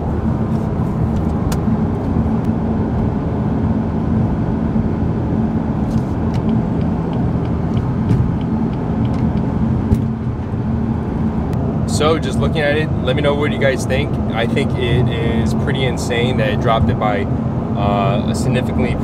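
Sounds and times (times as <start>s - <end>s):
car engine drone inside cabin: 0.0s - 19.0s
road and tyre noise: 0.0s - 19.0s.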